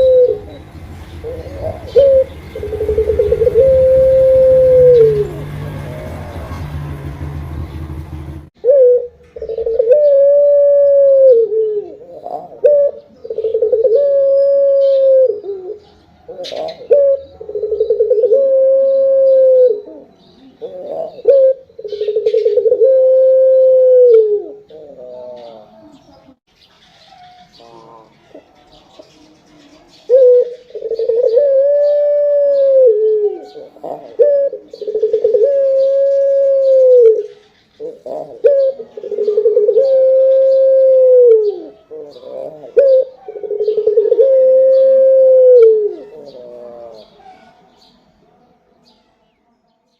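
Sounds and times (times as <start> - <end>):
dove cooing: 0.0 - 6.6, 8.6 - 26.3, 27.1 - 47.7.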